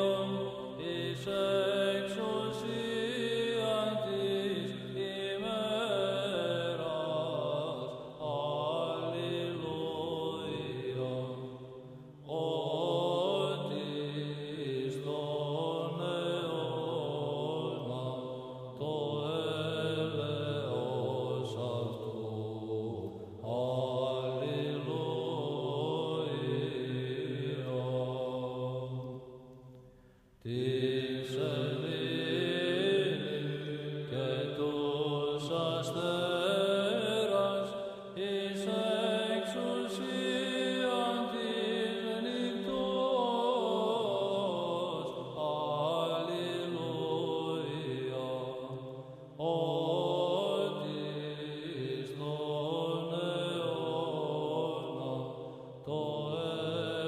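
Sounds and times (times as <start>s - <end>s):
slow vocal chant: 0.0s - 57.0s.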